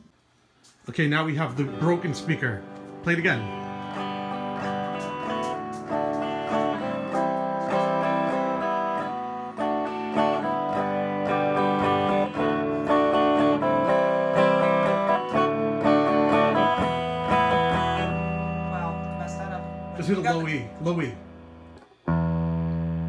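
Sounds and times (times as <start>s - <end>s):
distorted electric guitar: 1.3s - 23.0s.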